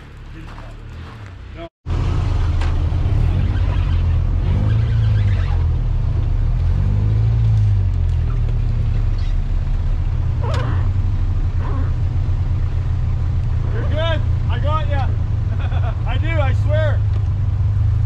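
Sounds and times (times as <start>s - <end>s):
pickup engine at low speed: 0.0s - 18.0s.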